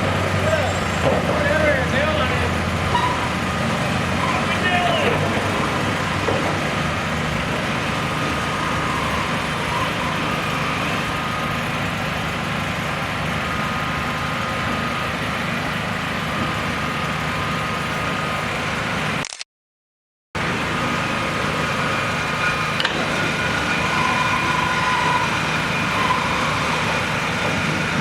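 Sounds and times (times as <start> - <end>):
heavy engine idling hum: 0.0 - 19.2, 20.4 - 28.0.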